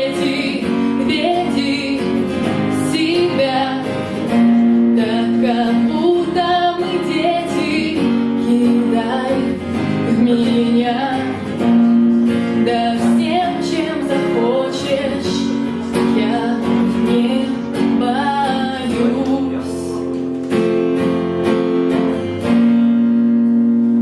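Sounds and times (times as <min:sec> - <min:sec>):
woman singing: 0:00.0 - 0:20.1
acoustic guitar strumming: 0:00.0 - 0:24.0.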